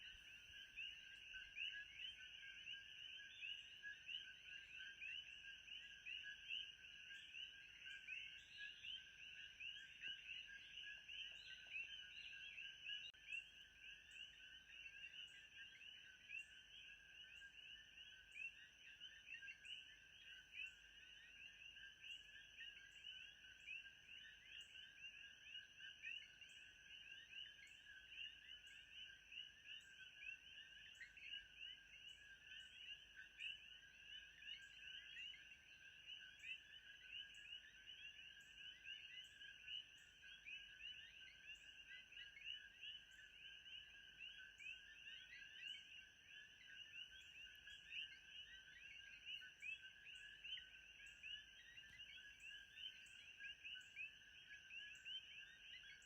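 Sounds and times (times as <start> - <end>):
chirping frogs and insects: 0.0 - 56.0.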